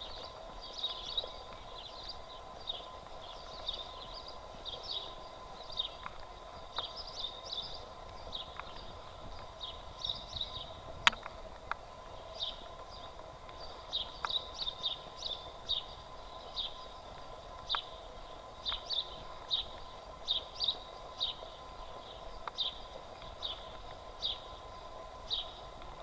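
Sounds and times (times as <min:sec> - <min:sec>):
faint steady whine: 0:00.0 - 0:26.0
footsteps on paved street: 0:00.0 - 0:26.0.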